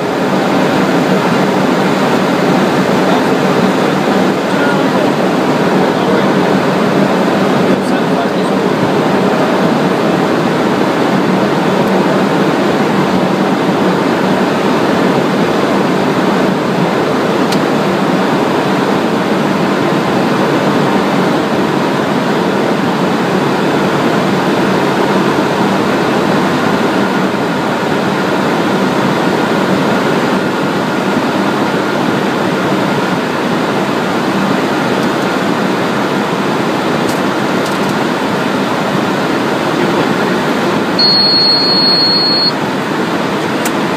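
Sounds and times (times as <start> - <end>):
jet engines humming: 0.0 - 43.9.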